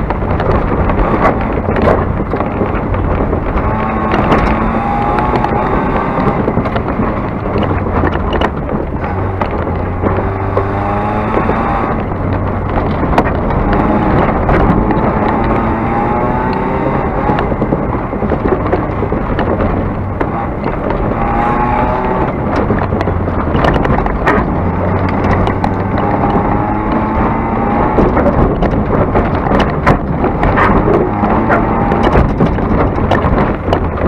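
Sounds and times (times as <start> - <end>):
tyres and wind rumble: 0.0 - 34.0
car engine revving hard: 0.3 - 34.0.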